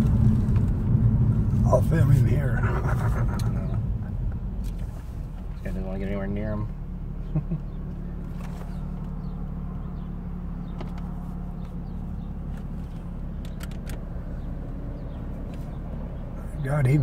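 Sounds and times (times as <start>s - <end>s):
car engine hum from inside: 0.0s - 17.0s.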